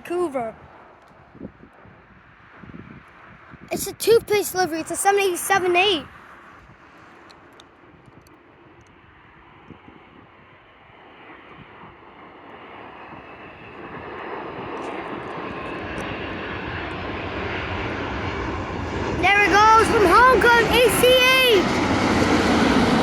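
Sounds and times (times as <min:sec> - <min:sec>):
jet engines rushing: 0:02.0 - 0:23.0.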